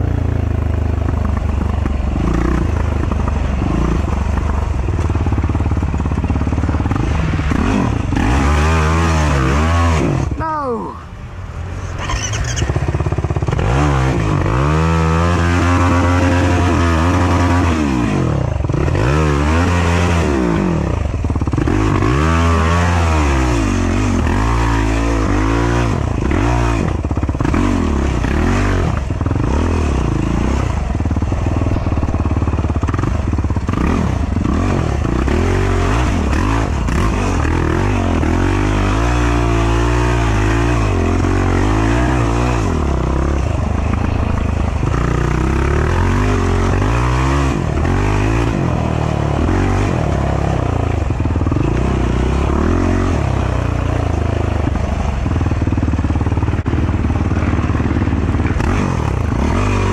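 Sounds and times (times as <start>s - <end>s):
atv engine revving: 0.0s - 11.0s, 11.6s - 59.9s.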